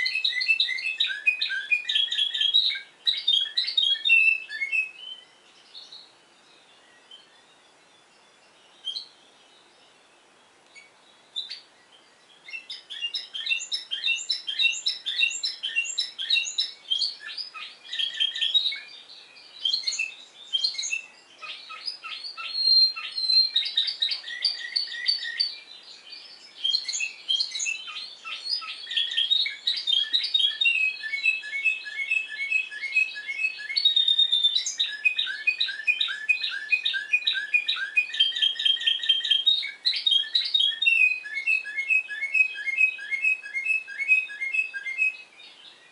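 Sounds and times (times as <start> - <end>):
canary singing: 0.0 - 6.2, 7.0 - 9.2, 10.7 - 45.8.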